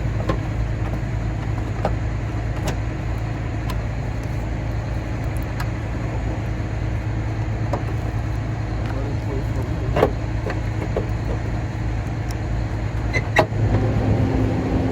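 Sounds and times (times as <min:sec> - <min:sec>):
low engine hum: 0:00.0 - 0:14.9.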